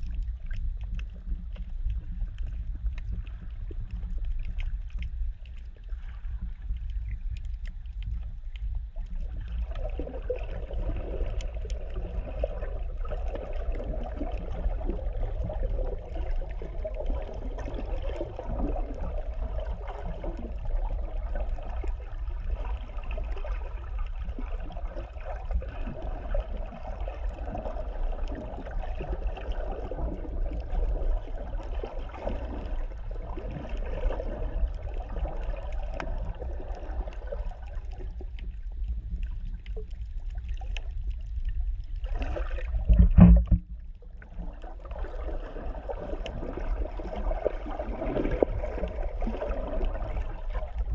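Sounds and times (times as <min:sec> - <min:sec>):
muffled underwater water rush: 0:00.0 - 0:50.9
steady low rumble: 0:00.0 - 0:50.9.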